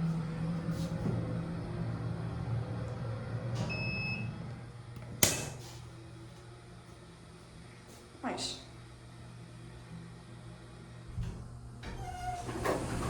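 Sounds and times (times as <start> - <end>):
elevator pump motor humming: 0.0 - 8.1, 8.7 - 13.0.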